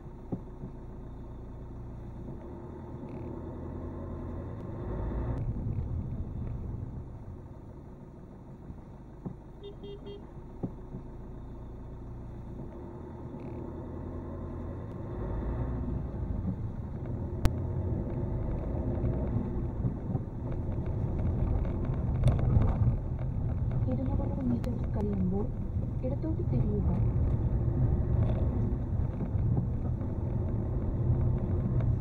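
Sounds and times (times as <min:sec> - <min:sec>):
engine and tyre rumble: 0:00.0 - 0:32.0.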